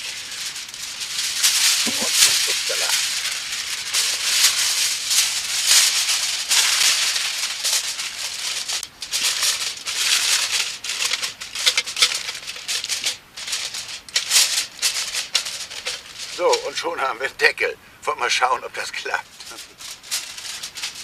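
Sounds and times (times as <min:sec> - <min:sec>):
aluminium foil crinkling: 0:00.0 - 0:17.6, 0:18.6 - 0:21.0.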